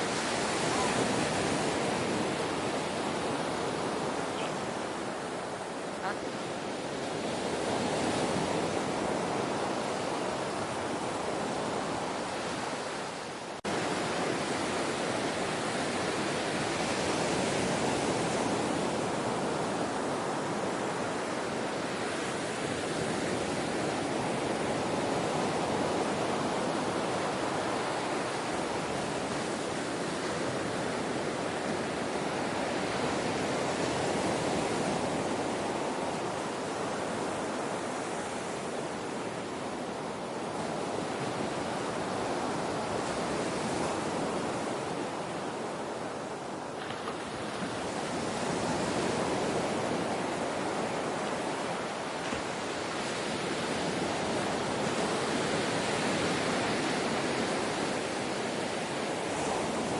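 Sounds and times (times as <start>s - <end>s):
ocean surf washing: 0.0s - 59.9s.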